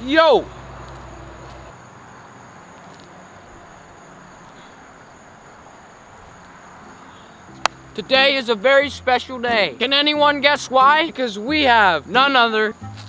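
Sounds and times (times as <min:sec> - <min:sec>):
crickets trilling: 0:00.0 - 0:13.0
faint outdoor background noise: 0:00.0 - 0:13.0.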